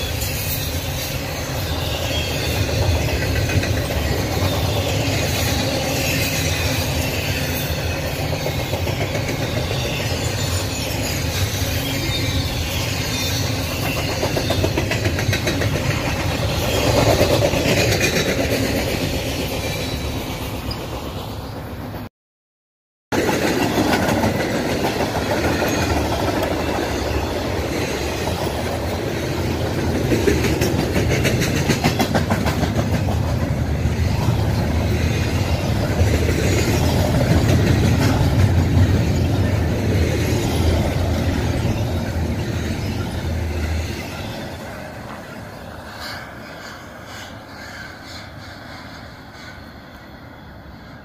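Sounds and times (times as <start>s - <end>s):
wheels clicking over rail joints: 0.0s - 21.3s, 23.2s - 48.2s
freight train rumbling past: 0.0s - 22.1s, 23.1s - 51.0s.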